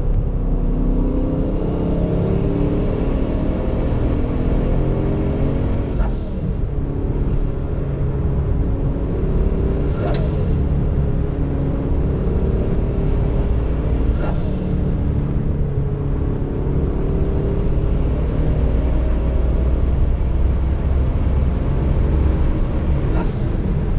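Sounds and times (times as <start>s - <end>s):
car engine revving at full throttle: 0.0s - 23.9s.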